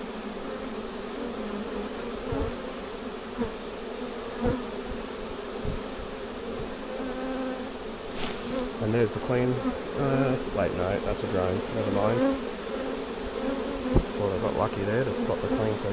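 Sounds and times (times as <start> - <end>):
bee swarm buzzing: 0.0 - 15.9.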